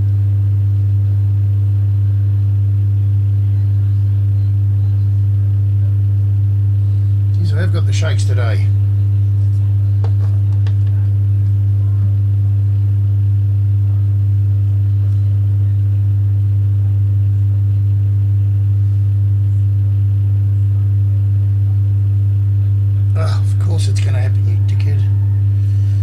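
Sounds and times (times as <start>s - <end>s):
deep steady hum: 0.0s - 26.0s.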